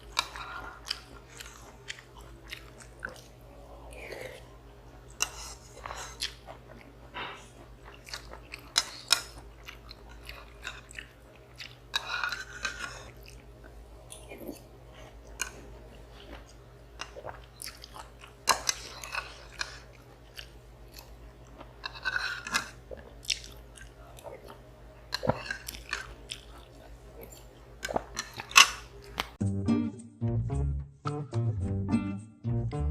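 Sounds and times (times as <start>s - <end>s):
wet chewing with mouth clicks: 0.0s - 4.5s, 5.1s - 29.4s.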